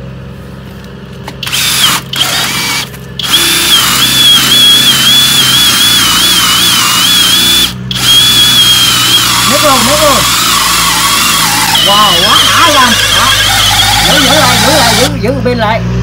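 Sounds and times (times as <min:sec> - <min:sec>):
cordless drill boring into wood: 0:01.4 - 0:15.1.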